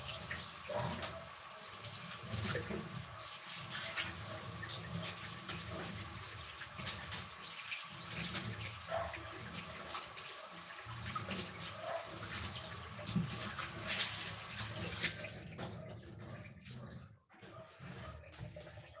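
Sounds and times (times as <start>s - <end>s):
water running and splashing: 0.0s - 19.0s.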